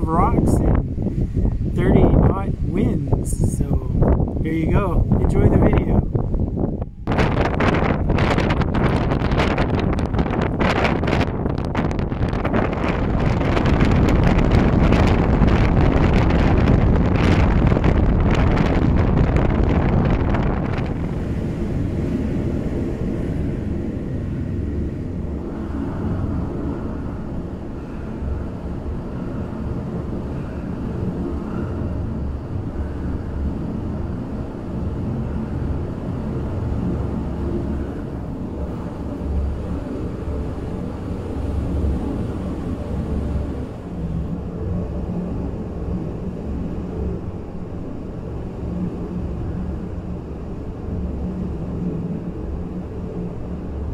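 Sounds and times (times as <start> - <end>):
strong wind buffeting microphone: 0.0 - 53.9.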